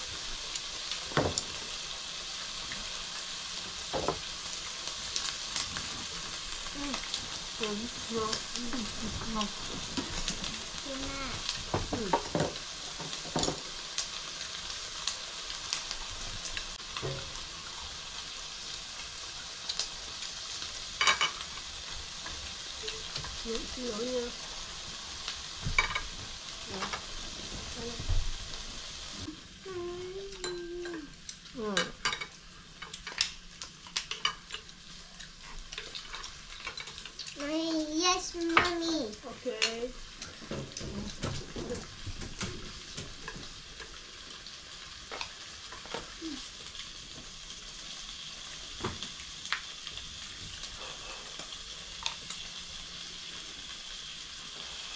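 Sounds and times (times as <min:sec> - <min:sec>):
meat sizzling on grill pan: 0:00.0 - 0:54.9.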